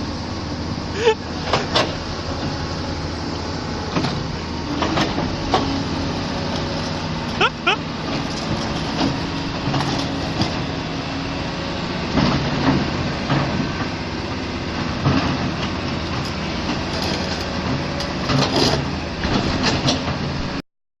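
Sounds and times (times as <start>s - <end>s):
heavy engine running: 0.0s - 20.6s.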